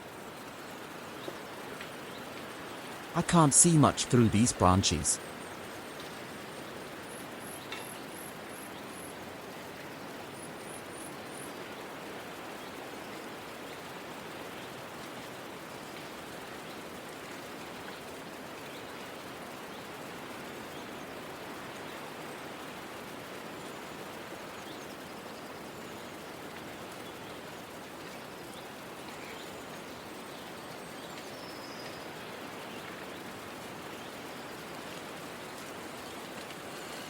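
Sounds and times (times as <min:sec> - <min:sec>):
outdoor background hiss: 0:00.0 - 0:37.0.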